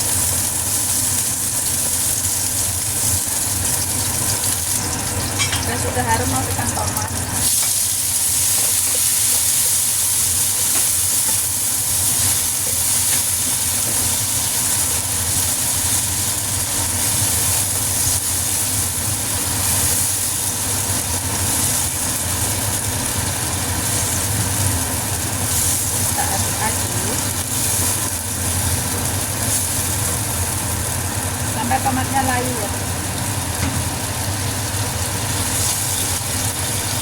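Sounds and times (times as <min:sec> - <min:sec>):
tomatoes sizzling in hot oil: 0:00.0 - 0:37.0.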